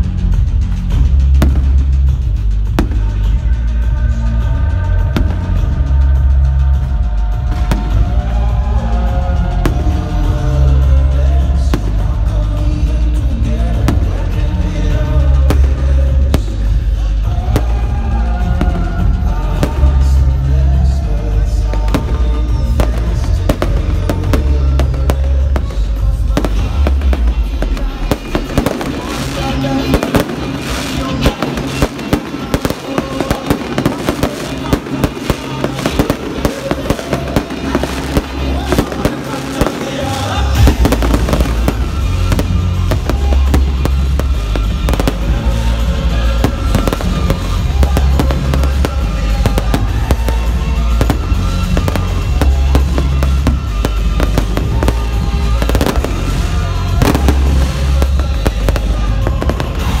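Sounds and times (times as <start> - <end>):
music with heavy bass: 0.0 - 60.0
fireworks bangs: 0.1 - 3.6, 4.4 - 6.4, 7.3 - 60.0.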